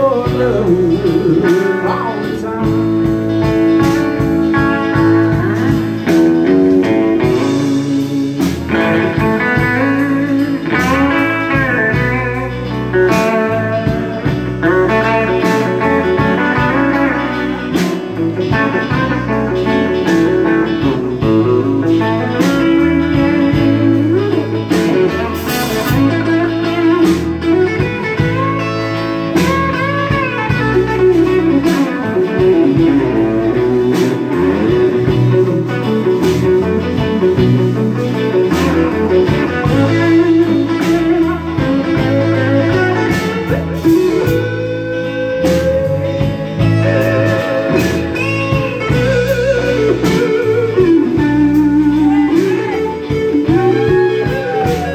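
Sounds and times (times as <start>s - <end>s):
drum kit: 0.0s - 54.9s
electric bass: 0.0s - 54.9s
electric guitar lead: 0.0s - 54.9s.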